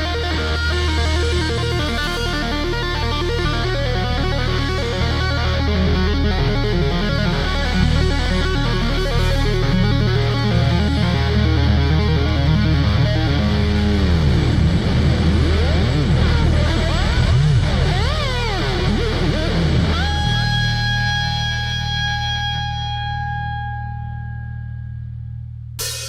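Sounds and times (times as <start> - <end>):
electric guitar sliding pitch: 0.0 - 26.0
low bass notes: 0.0 - 26.0.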